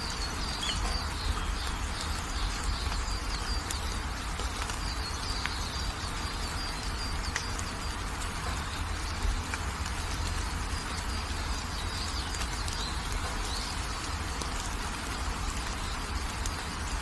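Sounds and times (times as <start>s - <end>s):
continuous low rumble: 0.0s - 17.0s
gentle rain hiss: 0.0s - 17.0s
small birds chirping: 0.0s - 17.0s.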